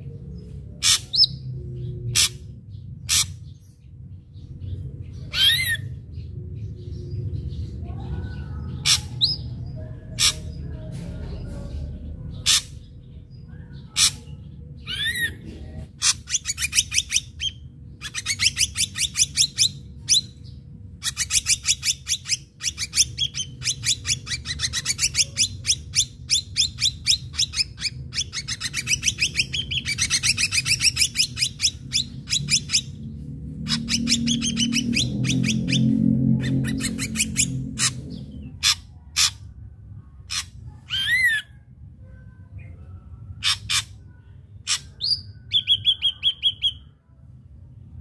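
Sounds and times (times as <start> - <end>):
bird singing: 0.0 - 39.5, 40.2 - 47.2.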